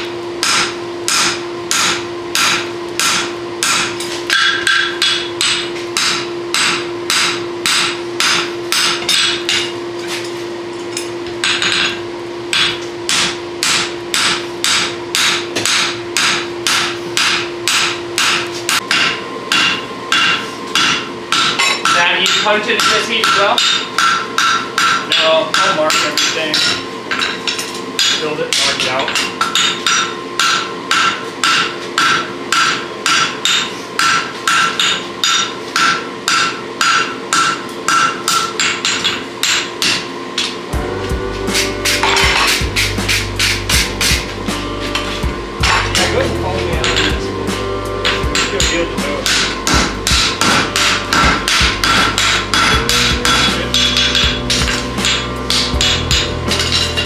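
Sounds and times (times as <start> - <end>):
hammer striking hot steel on anvil: 0.0 - 9.8, 10.9 - 40.6, 41.5 - 57.0
steady hum: 0.0 - 57.0.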